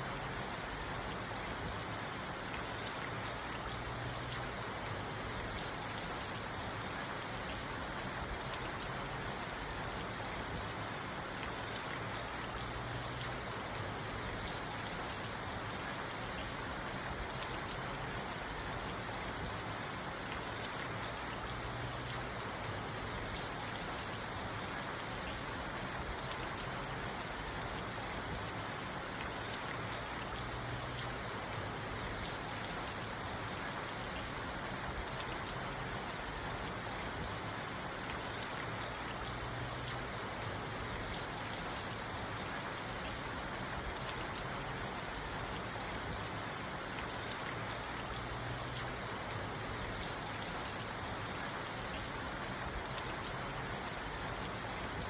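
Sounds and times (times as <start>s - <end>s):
rain pattering on a car: 0.0s - 55.0s.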